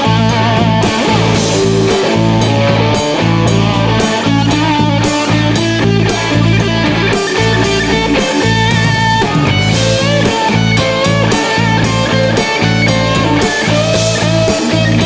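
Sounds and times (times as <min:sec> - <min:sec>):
bass notes: 0:00.0 - 0:15.0
drum kit: 0:00.0 - 0:15.0
electric guitar melody: 0:00.0 - 0:15.0.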